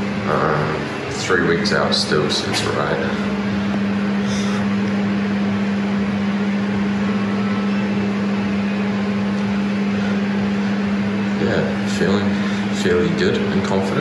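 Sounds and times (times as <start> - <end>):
ventilation fan humming: 0.0 - 14.0.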